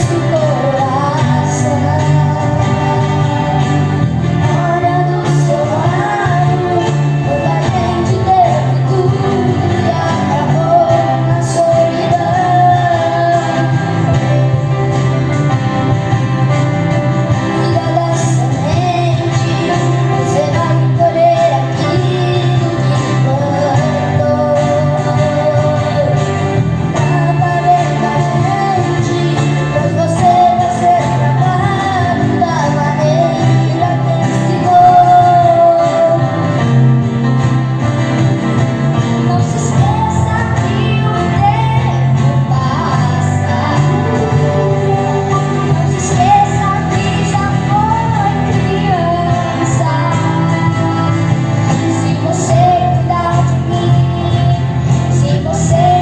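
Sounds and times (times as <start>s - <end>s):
instrumental accompaniment: 0.0s - 56.0s.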